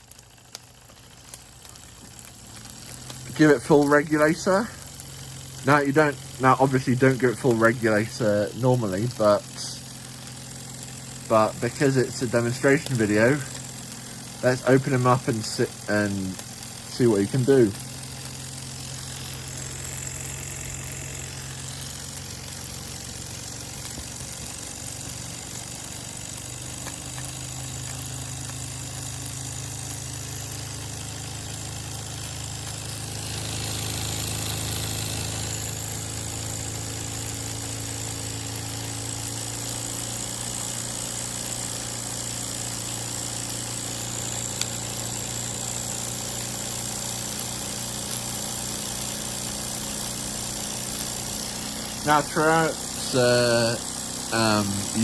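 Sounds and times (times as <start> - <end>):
model steam locomotive humming: 0.0 - 55.0
steam hissing: 0.0 - 55.0.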